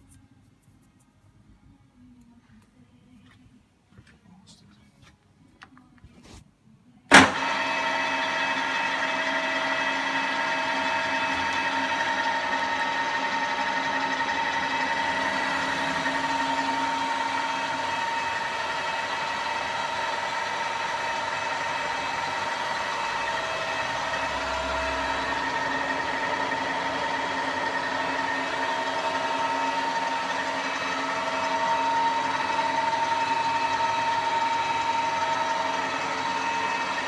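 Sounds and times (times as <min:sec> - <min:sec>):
milling machine whining: 0:07.1 - 0:37.0.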